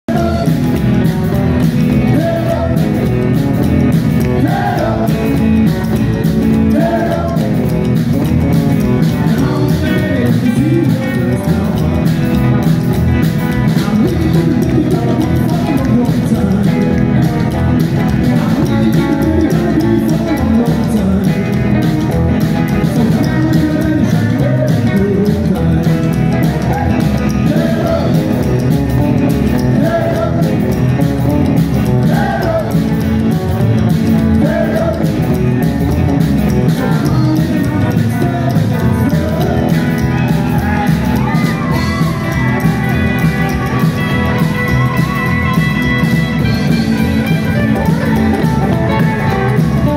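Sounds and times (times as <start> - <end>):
person singing: 0.0 - 3.4, 4.0 - 8.0, 8.9 - 35.7, 36.5 - 49.9
rockabilly band playing: 0.0 - 49.9.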